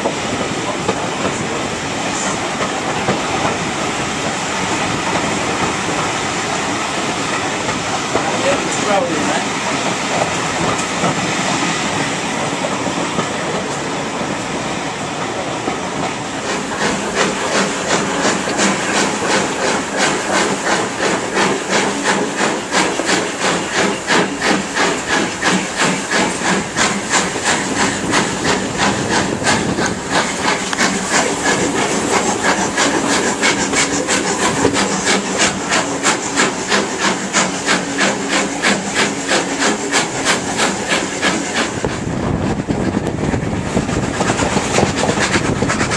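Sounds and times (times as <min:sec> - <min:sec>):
steam locomotive chuffing: 0:00.0 - 0:45.9.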